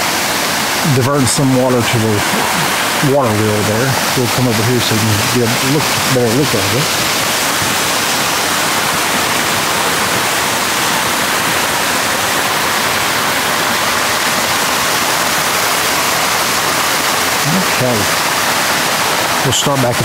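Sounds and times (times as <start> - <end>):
water pouring onto water wheel: 0.0 - 20.0.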